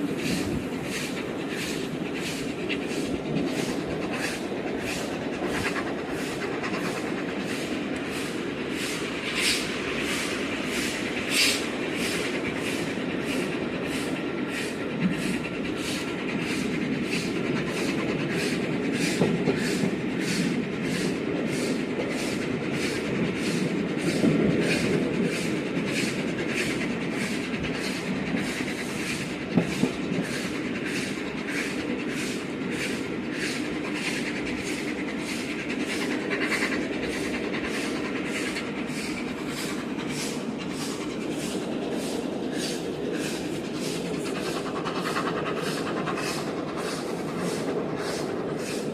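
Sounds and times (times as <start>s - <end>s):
train wheels clicking on rail: 0.0s - 48.9s.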